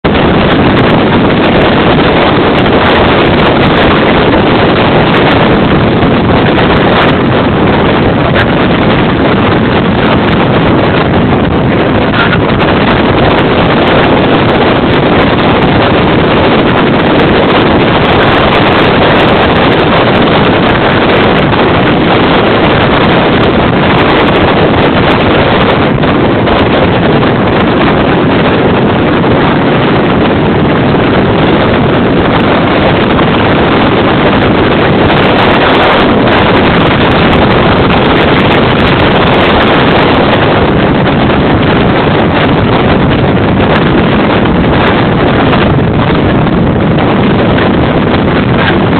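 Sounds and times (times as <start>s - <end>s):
strong wind on microphone: 0.0s - 48.9s.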